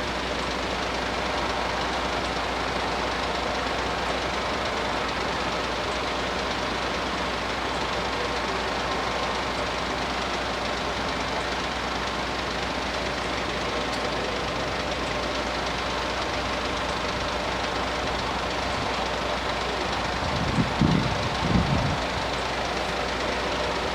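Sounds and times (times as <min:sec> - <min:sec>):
diesel train engine running: 0:00.0 - 0:23.9.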